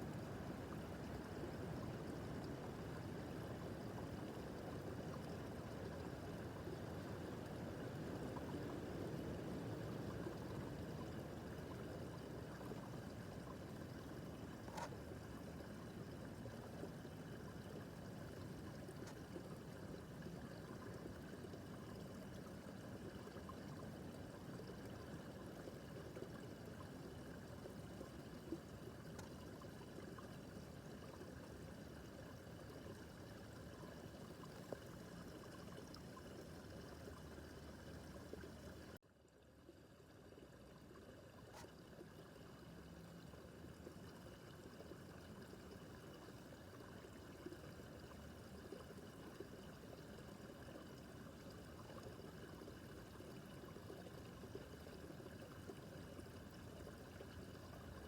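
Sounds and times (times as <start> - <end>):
brook babbling: 0.0 - 58.0.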